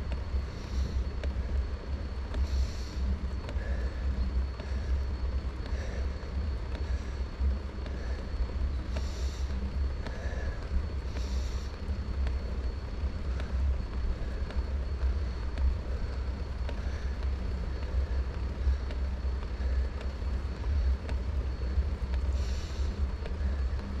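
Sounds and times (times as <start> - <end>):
faint ticks: 0.0 - 24.0
road noise: 0.0 - 24.0
wind rumble: 0.0 - 24.0.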